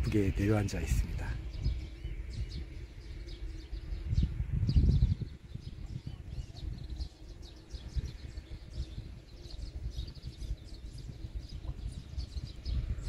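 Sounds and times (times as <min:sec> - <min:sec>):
low uneven rumble: 0:00.0 - 0:13.0
small birds chirping: 0:00.0 - 0:13.0.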